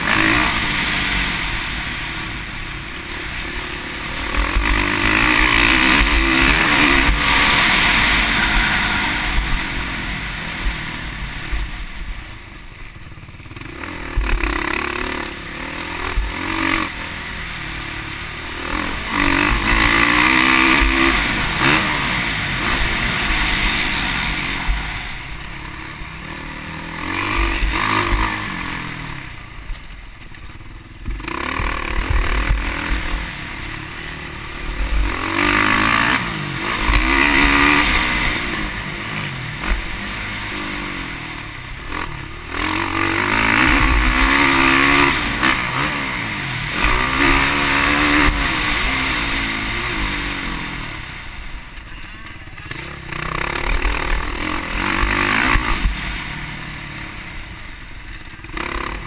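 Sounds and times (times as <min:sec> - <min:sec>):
motocross engine revving: 0:00.0 - 0:30.3, 0:31.0 - 0:59.0.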